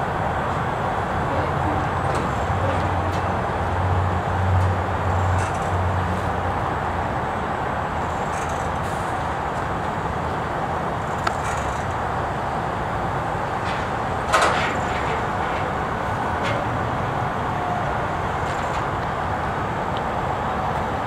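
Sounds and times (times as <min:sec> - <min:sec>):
truck crane engine running: 0:00.0 - 0:21.0.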